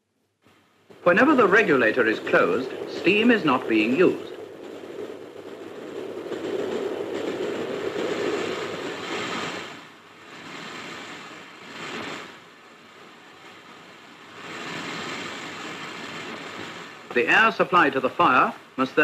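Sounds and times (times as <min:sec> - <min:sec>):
steam locomotive rushing: 0:00.9 - 0:19.0.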